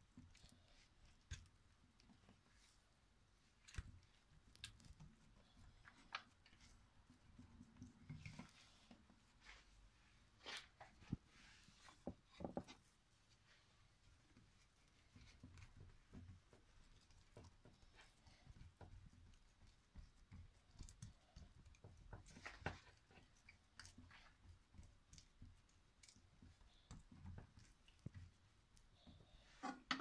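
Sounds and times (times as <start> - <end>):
hands patting dough in metal pan: 0.0 - 30.0.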